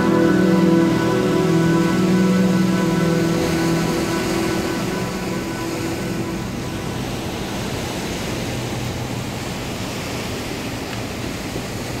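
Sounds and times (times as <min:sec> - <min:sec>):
waves breaking on shore: 0:00.0 - 0:12.0.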